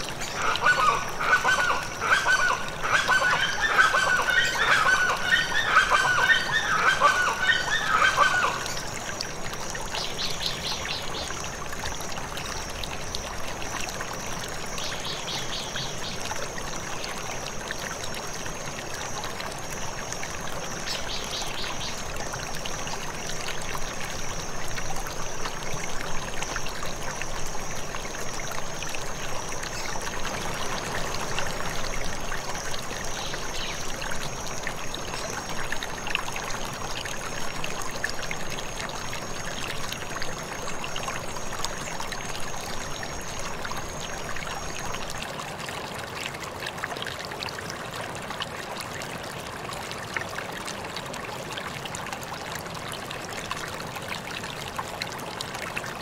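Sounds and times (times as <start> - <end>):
flowing water splashing: 0.0 - 56.0.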